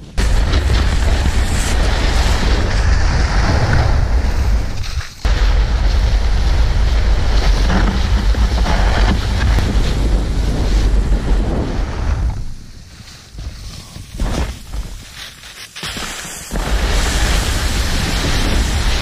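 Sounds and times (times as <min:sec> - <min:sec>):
wind buffeting microphone: 0:00.0 - 0:15.0, 0:16.6 - 0:19.0
heavy rumble: 0:00.0 - 0:15.1, 0:16.5 - 0:19.0
sled scraping over snow: 0:00.0 - 0:19.0.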